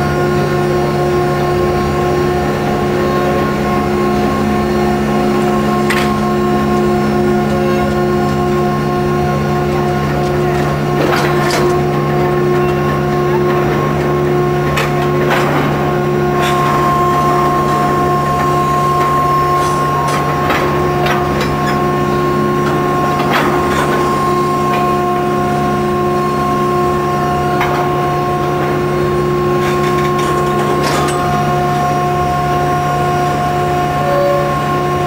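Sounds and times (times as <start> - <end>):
steady machine hum: 0.0 - 35.0
railcar clicks and creaks: 1.4 - 35.0.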